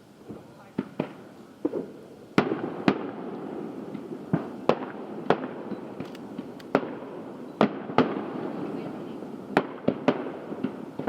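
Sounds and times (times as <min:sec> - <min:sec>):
fireworks crackle: 0:00.0 - 0:11.0
fireworks exploding: 0:00.2 - 0:11.0.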